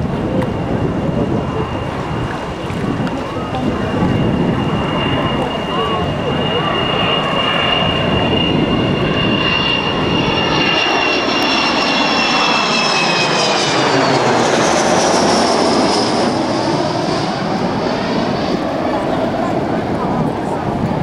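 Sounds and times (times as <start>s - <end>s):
jet aircraft roaring overhead: 0.0s - 21.0s
jet engine high whine: 0.0s - 21.0s.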